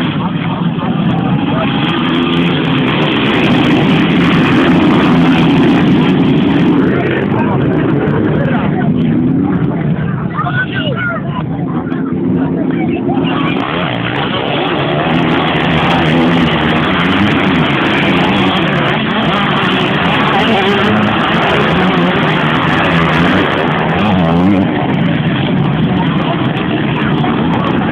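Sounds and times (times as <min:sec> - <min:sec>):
motocross bikes racing: 0:00.0 - 0:27.9.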